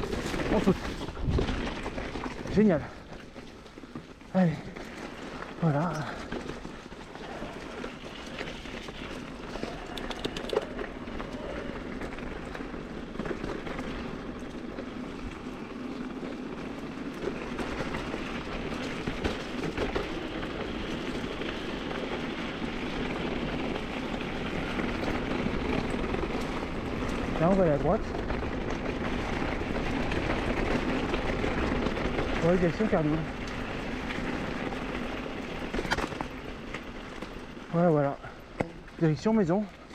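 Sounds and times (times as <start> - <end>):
bike rattling: 0.0 - 39.9
bike tyres rolling on dirt: 0.0 - 39.9.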